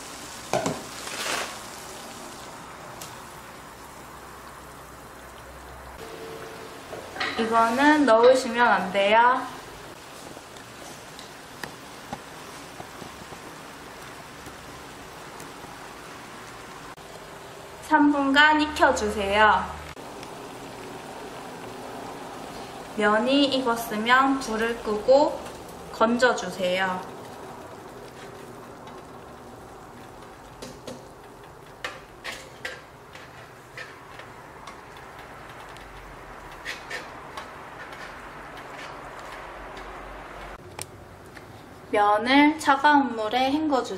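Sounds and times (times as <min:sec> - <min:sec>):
water boiling in a pot: 0:00.0 - 0:43.9.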